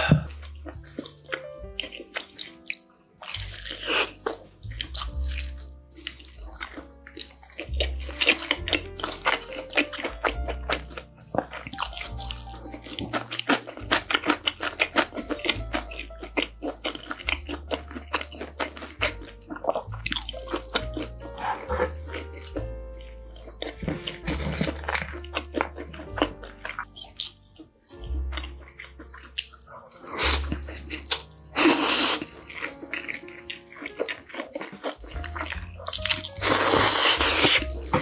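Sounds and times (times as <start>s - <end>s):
soft background music: 0.0s - 38.0s
wet chewing and lip-smacking: 0.0s - 38.0s.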